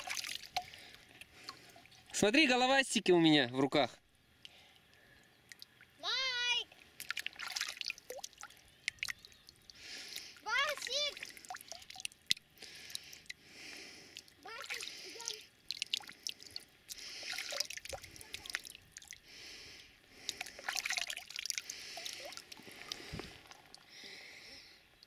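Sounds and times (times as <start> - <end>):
water dripping into pond: 0.0 - 2.3, 4.0 - 25.0.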